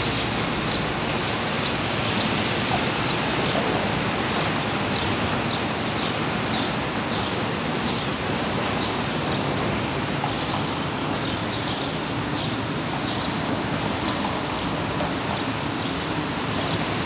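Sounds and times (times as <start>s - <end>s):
freight train rumbling over bridge: 0.0s - 17.0s.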